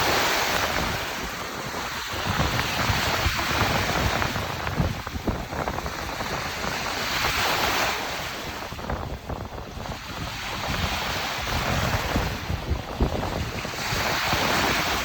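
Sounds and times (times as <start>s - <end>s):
waves breaking on a beach: 0.0s - 15.0s
wind buffeting microphone: 0.0s - 15.0s.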